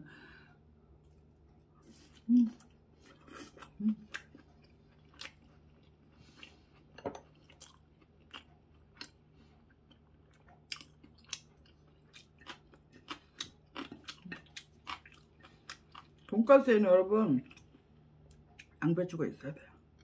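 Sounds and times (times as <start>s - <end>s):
person chewing crunchy food: 1.0s - 16.4s, 17.4s - 18.8s.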